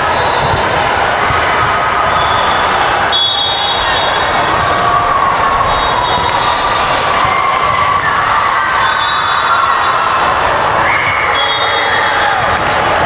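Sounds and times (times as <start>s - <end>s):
many voices: 0.0s - 13.0s
noise of volleyball play: 0.0s - 13.0s.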